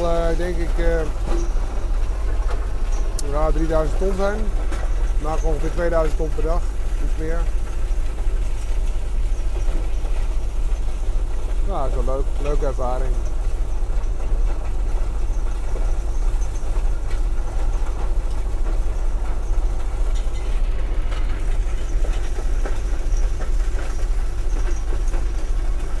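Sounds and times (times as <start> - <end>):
diesel engine droning: 0.0 - 26.0
knocks and rattles: 0.0 - 26.0.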